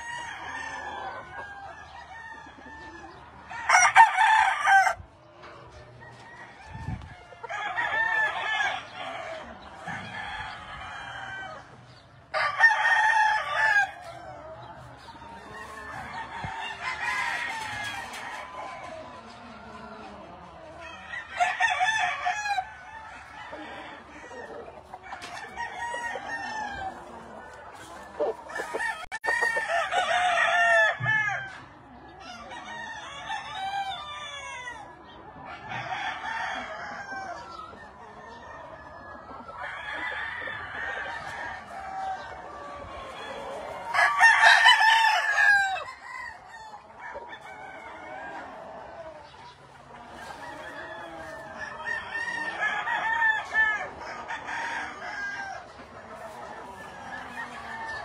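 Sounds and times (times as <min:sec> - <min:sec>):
roosters crowing and clucking: 0:00.0 - 0:58.0.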